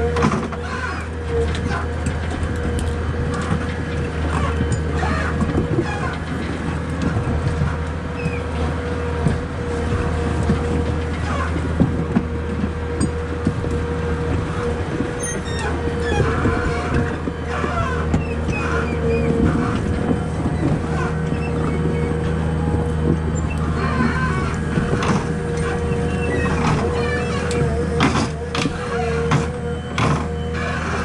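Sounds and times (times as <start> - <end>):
diesel engine running: 0.0 - 31.0
hydraulic whine: 0.0 - 31.0
machinery knocks and squeaks: 0.0 - 31.0.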